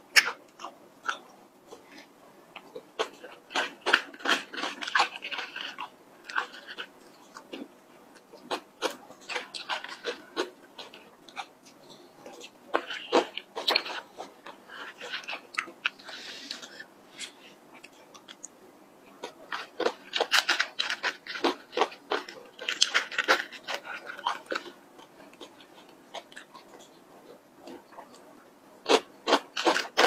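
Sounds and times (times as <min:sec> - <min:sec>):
chewing and crunching: 0:00.1 - 0:18.5, 0:19.1 - 0:30.0.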